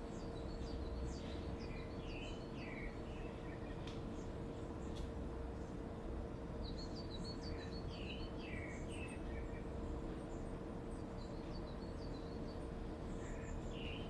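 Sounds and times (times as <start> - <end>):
small birds chirping: 0.0 - 5.8, 6.4 - 14.0
steady low hum: 0.0 - 14.0.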